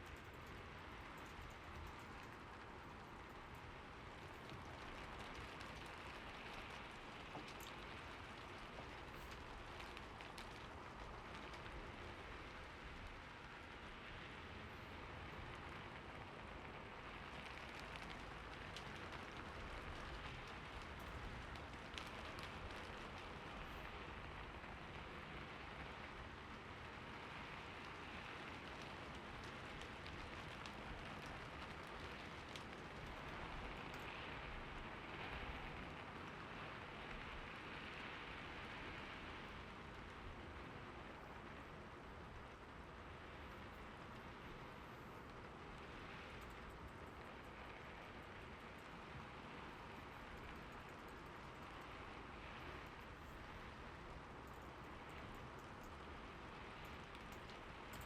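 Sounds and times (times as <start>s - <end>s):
raindrops ticking on a surface: 0.0s - 58.0s
soft rain hiss: 0.0s - 58.0s.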